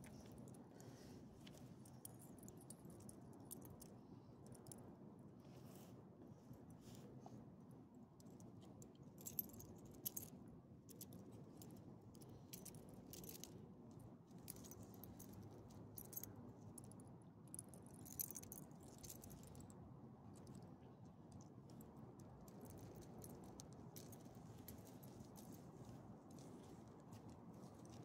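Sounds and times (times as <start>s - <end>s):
low steady hiss: 0.0s - 28.0s.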